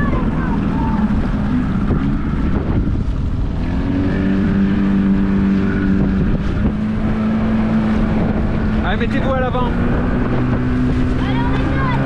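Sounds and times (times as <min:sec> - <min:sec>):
outboard motor humming: 0:00.0 - 0:12.0
water and wind rumble: 0:00.0 - 0:12.0.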